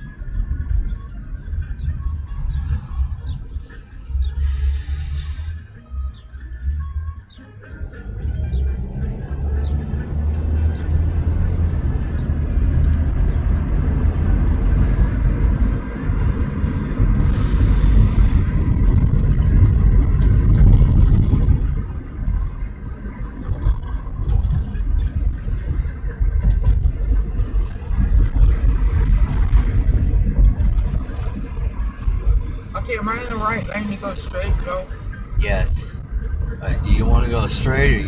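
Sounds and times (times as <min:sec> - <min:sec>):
road and engine rumble in car: 0:00.0 - 0:38.0.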